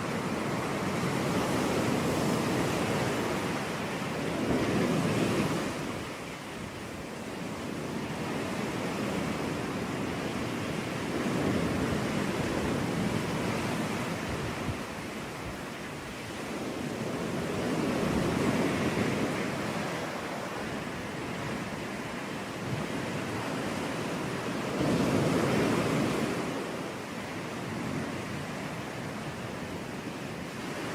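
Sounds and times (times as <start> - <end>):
waves breaking on a beach: 0.0 - 30.9.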